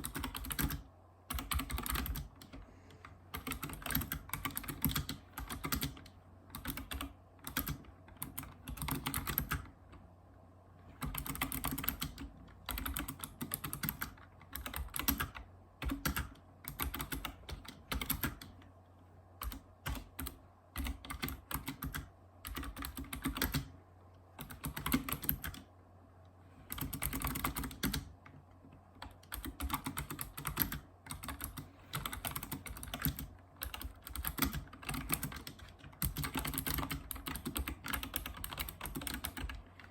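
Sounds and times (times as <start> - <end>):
keyboard typing: 0.0 - 10.0, 10.9 - 18.7, 19.4 - 25.7, 26.7 - 39.9.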